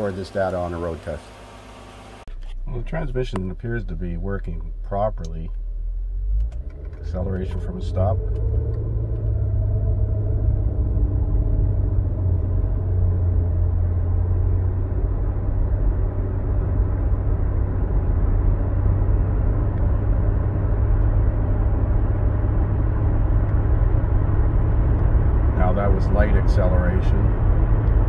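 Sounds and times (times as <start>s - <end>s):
car engine accelerating: 0.0s - 28.0s
road noise: 0.0s - 28.0s.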